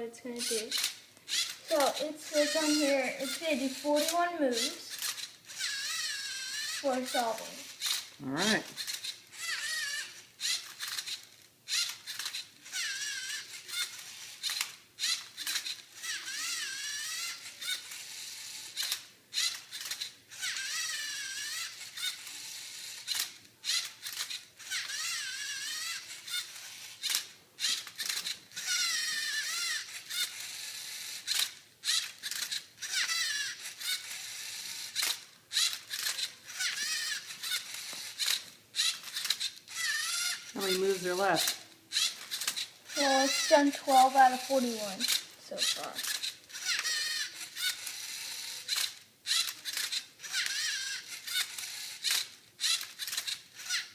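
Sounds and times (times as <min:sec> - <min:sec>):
electric motors and gears whining: 0:00.0 - 0:53.9.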